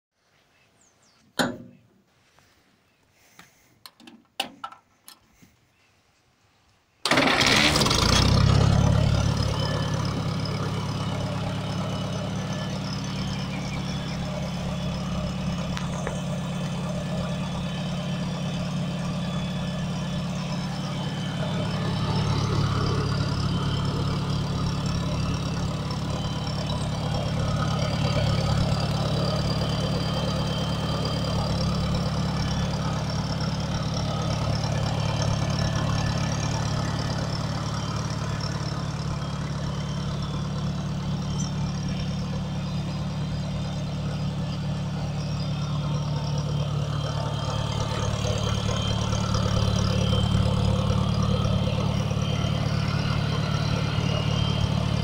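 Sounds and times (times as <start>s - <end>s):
tractor engine idling: 7.0s - 55.0s.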